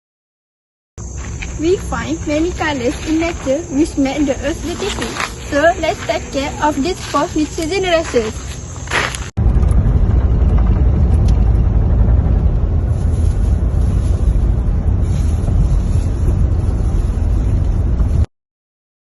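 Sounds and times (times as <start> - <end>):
loud low rumbling: 1.0 - 18.3.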